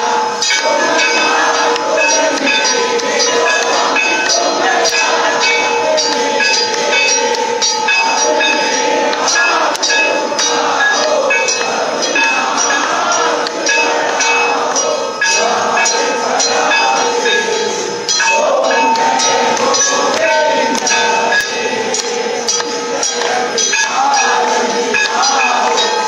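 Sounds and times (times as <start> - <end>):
temple bells ringing: 0.0 - 26.0
voices chanting: 0.0 - 26.0.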